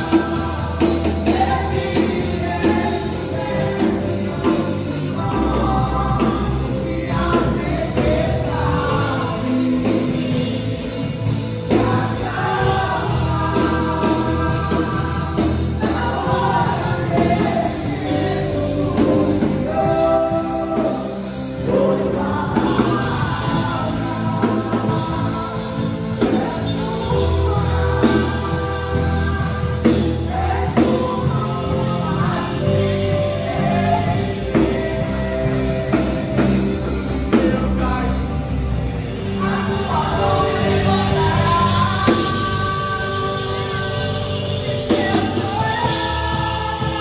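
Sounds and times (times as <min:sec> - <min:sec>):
band accompaniment with bass: 0:00.0 - 0:47.0
voices singing: 0:00.0 - 0:47.0.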